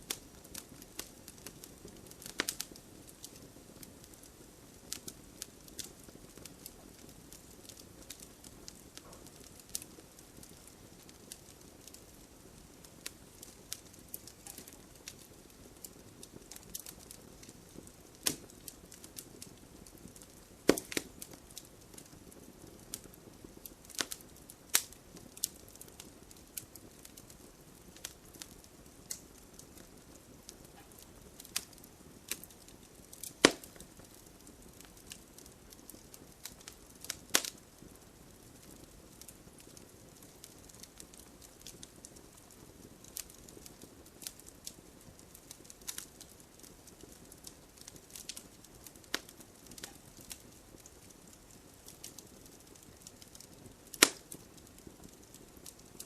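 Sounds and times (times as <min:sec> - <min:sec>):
fire crackles and pops: 0:00.0 - 0:56.0
wood fire hissing: 0:00.0 - 0:56.0.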